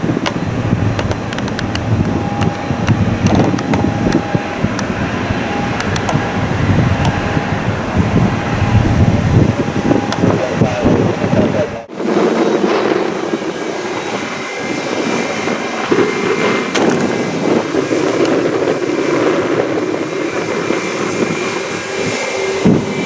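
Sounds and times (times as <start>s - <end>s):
jet engines rushing and whining: 0.0s - 23.0s.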